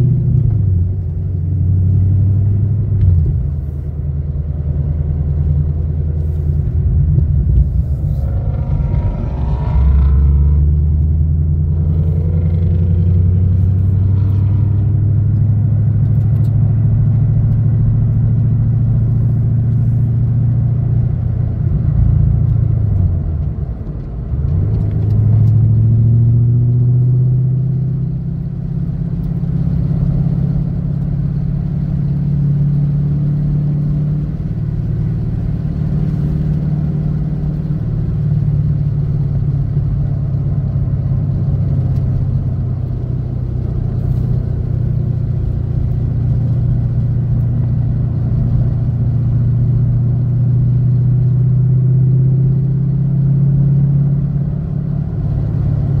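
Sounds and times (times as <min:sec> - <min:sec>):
car engine at low revs: 0:00.0 - 0:56.0.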